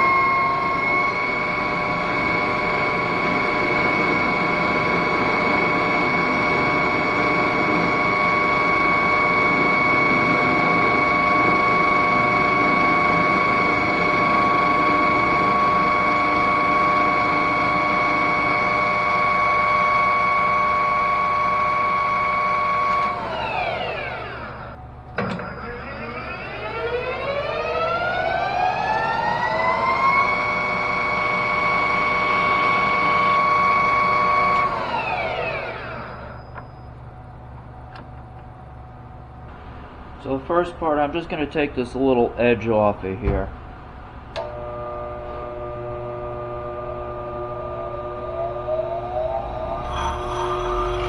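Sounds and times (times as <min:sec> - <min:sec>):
machine tool whining: 0:00.0 - 0:40.3, 0:43.8 - 0:51.0.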